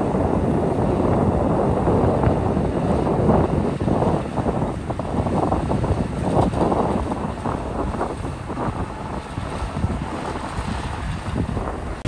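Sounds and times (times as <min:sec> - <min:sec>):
bulldozer diesel engine: 0:00.0 - 0:12.0
wind buffeting microphone: 0:00.0 - 0:12.0.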